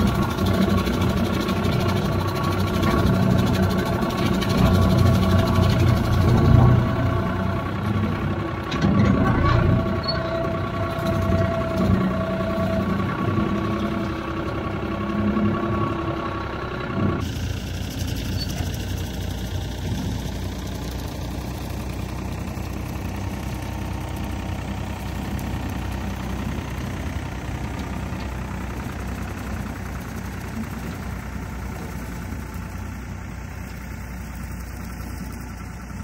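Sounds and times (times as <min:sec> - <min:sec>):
rotary cutter mowing grass: 0:00.0 - 0:14.6, 0:17.2 - 0:32.9
tractor engine running under load: 0:00.0 - 0:36.0.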